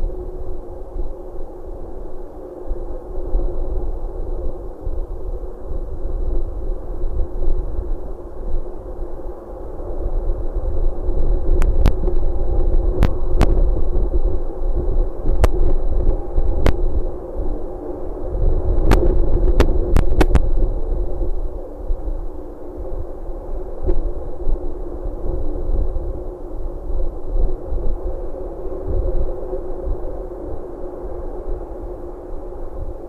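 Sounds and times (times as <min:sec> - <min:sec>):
faint thin whine: 0:00.0 - 0:33.0
steady hum: 0:00.0 - 0:33.0
wind rumbling on microphone: 0:00.0 - 0:33.0.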